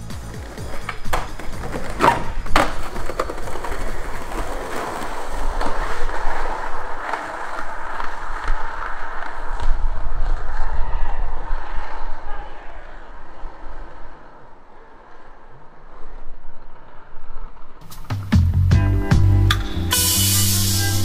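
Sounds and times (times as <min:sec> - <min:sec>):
skateboard clacks: 0:00.0 - 0:12.0, 0:12.9 - 0:18.4
skateboard wheels rolling on pavement: 0:00.0 - 0:21.0.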